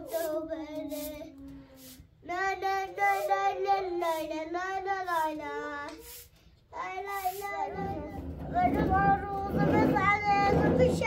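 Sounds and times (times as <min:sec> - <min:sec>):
child singing alone: 0:00.0 - 0:11.0.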